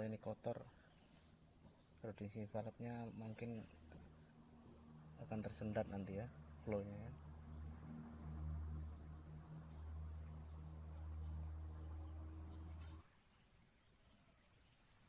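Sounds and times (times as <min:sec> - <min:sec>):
low steady hum: 0:00.0 - 0:14.6
crickets chirring: 0:00.0 - 0:15.0.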